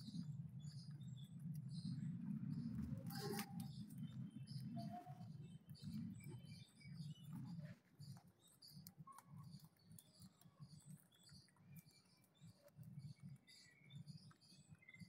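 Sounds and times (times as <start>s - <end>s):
rabbits chewing leaves: 0.2s - 15.0s.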